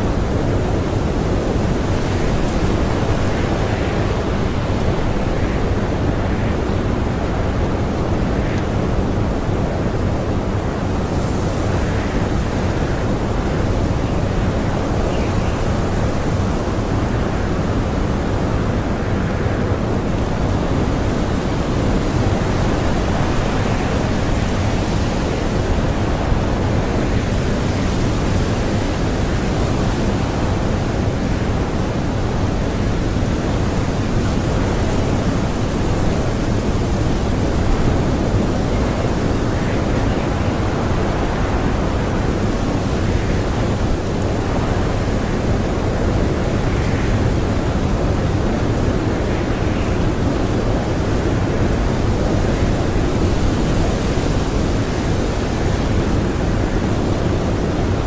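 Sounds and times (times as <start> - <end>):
blizzard wind rushing: 0.0 - 58.0.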